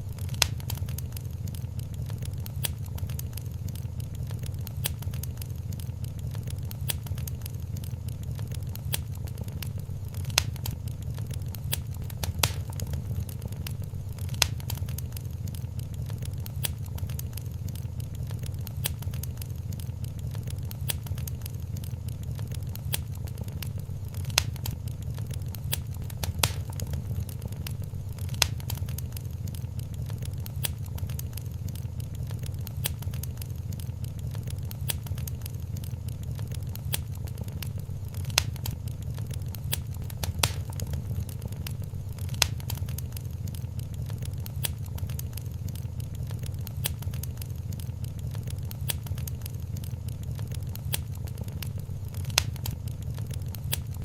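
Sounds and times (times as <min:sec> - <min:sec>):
loud fire pops: 0:00.0 - 0:54.0
low fire rumble: 0:00.0 - 0:54.0
wood fire crackling: 0:00.0 - 0:54.0.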